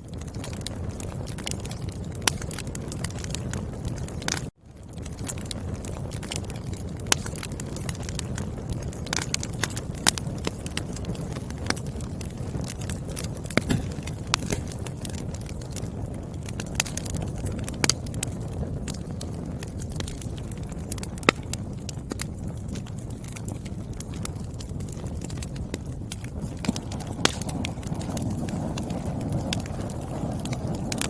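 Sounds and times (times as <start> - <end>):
wood fire crackling: 0.0 - 31.0
sharp pops and snaps: 0.1 - 31.0.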